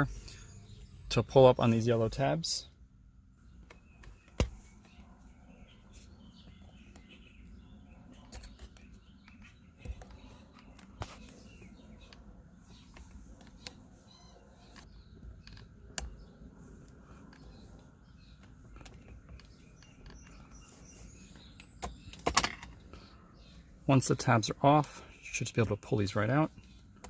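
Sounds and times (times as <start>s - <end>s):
faint birds chirping: 0.0s - 27.0s.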